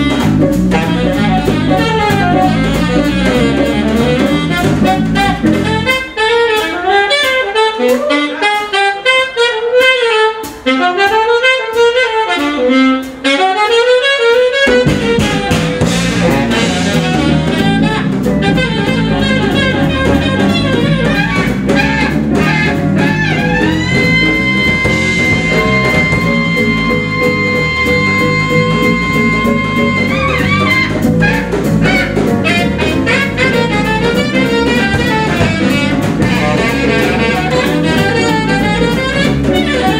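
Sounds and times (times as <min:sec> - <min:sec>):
double bass: 0:00.0 - 0:13.6, 0:14.4 - 0:39.9
drum kit: 0:00.0 - 0:39.9
jazz band playing: 0:00.0 - 0:39.9
saxophone: 0:00.0 - 0:39.9.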